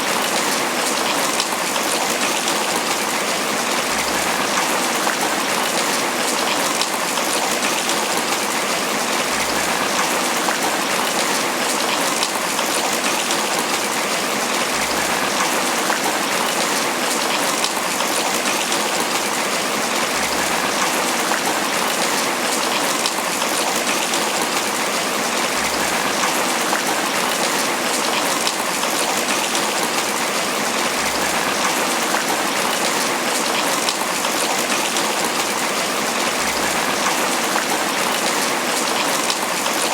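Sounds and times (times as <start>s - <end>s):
rain pattering on broad leaves: 0.0s - 39.9s.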